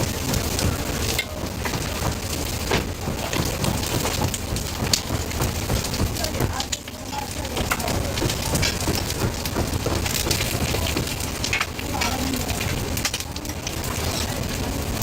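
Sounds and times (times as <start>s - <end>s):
utensils clicking and tapping: 0.0s - 14.5s
distant voices: 0.0s - 15.0s.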